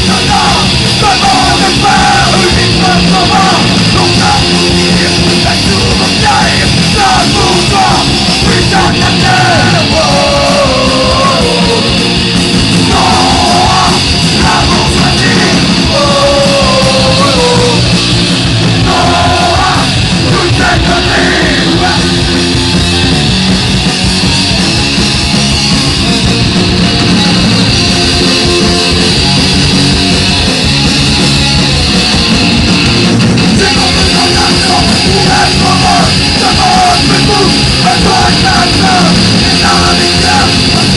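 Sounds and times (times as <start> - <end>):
punk rock band playing: 0.0 - 40.9.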